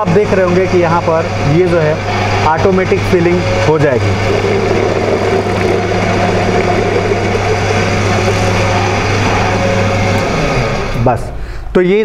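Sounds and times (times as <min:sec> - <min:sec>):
electric pump motor humming: 0:00.0 - 0:11.5.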